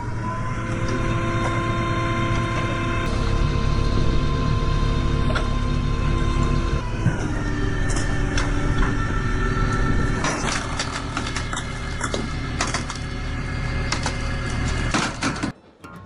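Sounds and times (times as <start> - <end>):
wood-processing machinery running: 0.0 - 16.0.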